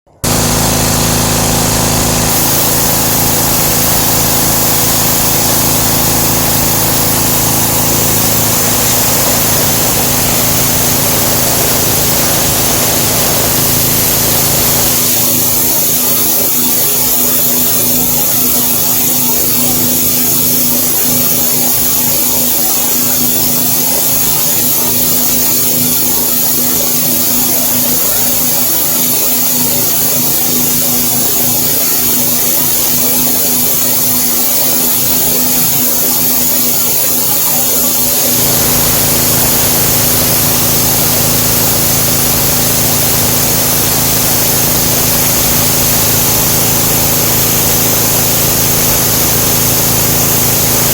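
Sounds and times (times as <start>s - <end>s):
pressure washer hum and spray hiss: 0.2s - 50.9s.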